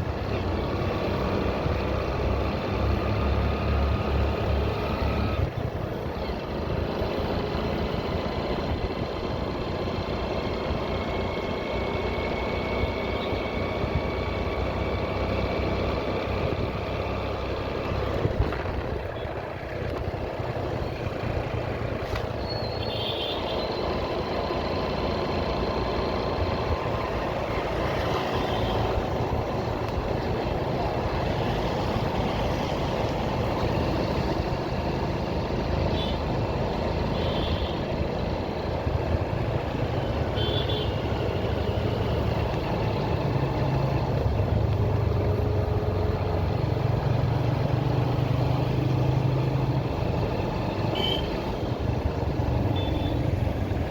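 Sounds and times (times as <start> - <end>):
road and wind noise: 0.0 - 53.9.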